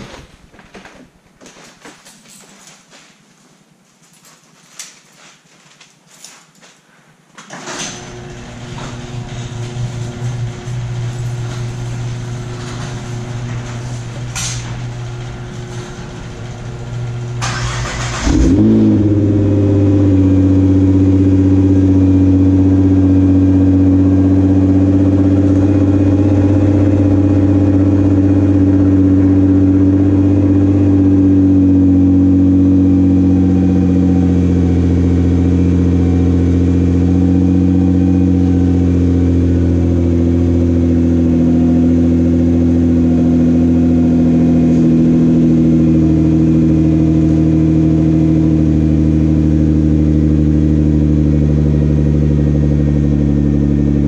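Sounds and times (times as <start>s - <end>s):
car engine idling: 8.0s - 54.0s.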